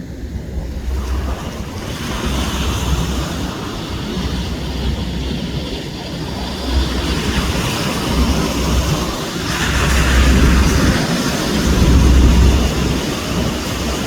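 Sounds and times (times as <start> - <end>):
wind buffeting microphone: 0.0 - 14.0
surf rushing: 0.2 - 14.0.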